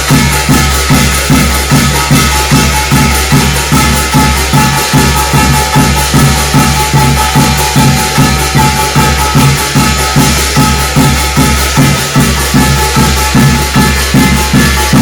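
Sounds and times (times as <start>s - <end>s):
metallic jingling and ringing: 0.0s - 15.0s
steady drum beat: 0.0s - 15.0s.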